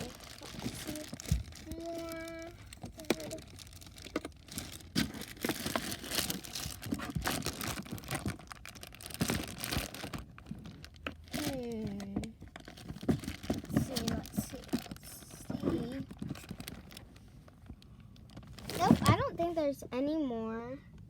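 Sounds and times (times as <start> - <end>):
plastic toys rustling and clicking: 0.0 - 19.6.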